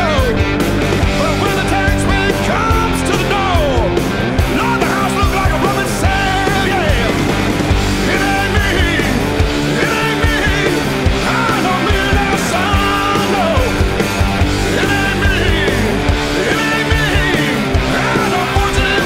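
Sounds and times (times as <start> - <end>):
rock song with singing: 0.0 - 19.0.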